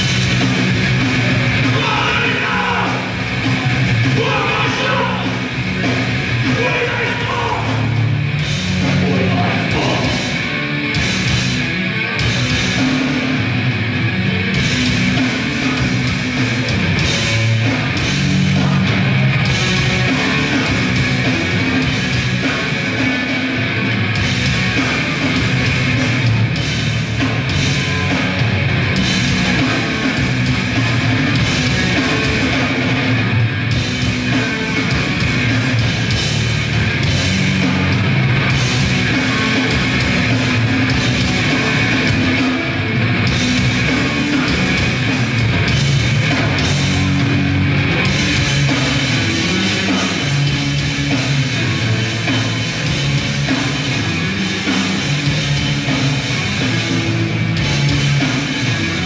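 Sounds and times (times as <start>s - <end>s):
distorted electric guitars and bass: 0.0s - 59.0s
fast dense drumming: 0.0s - 59.0s.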